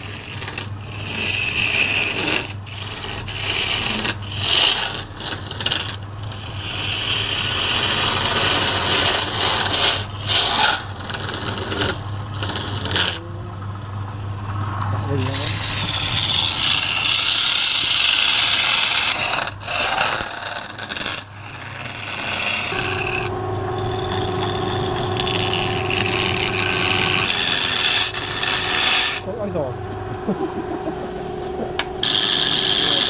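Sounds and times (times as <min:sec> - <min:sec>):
lathe gouge scraping wood: 0:00.0 - 0:13.2, 0:15.2 - 0:29.4, 0:32.0 - 0:33.0
lathe hum: 0:00.0 - 0:33.0.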